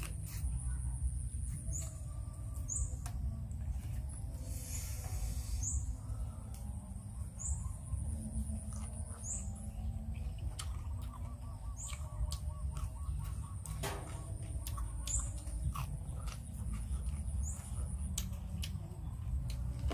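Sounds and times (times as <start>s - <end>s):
close-up chewing: 0.0s - 4.6s, 8.1s - 19.9s
bird chirping: 1.3s - 3.4s, 4.2s - 19.9s.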